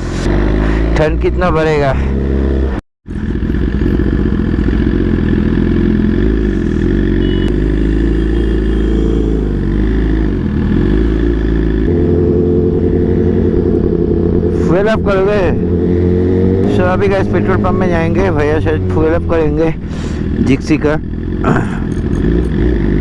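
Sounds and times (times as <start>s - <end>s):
motorbike engine running: 3.1s - 23.0s.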